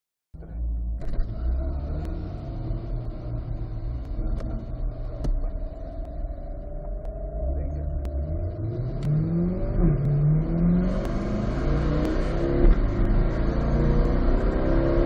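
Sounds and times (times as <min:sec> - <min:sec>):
car engine low rumble: 0:00.4 - 0:15.0.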